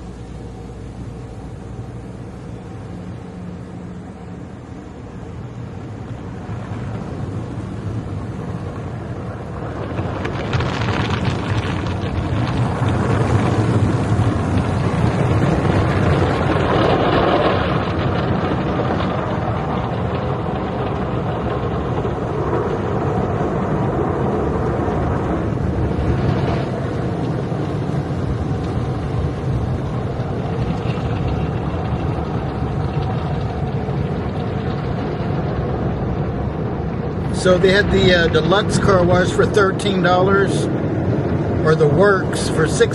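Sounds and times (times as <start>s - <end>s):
car wash water and machinery: 0.0s - 42.9s.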